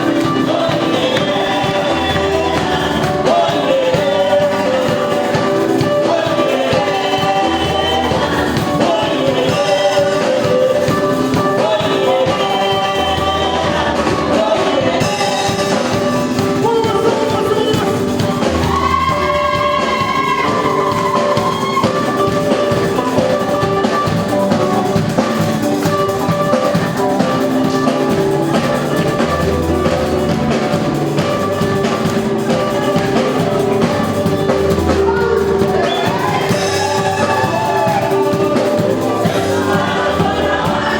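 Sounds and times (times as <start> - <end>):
live band music: 0.0 - 40.9
person singing: 0.0 - 40.9.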